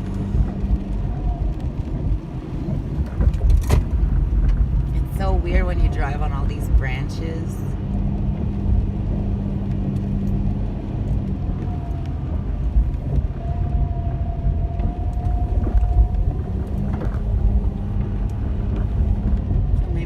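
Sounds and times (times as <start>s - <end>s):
tyres and engine rumbling: 0.0s - 20.0s.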